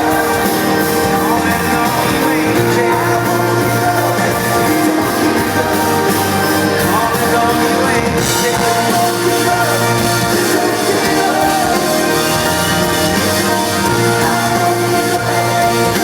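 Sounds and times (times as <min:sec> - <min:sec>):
lead vocal singing: 0:00.0 - 0:16.0
rock band playing live: 0:00.0 - 0:16.0.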